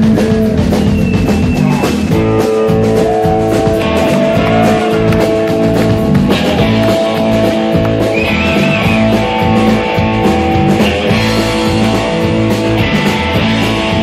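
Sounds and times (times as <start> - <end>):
drums: 0.0 - 14.0
electric bass: 0.0 - 14.0
electric guitar: 0.0 - 14.0.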